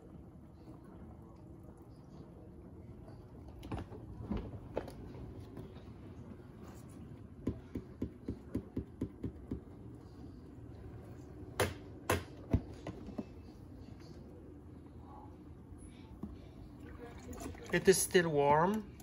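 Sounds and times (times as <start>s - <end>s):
washing machine faint hum: 0.0s - 19.0s.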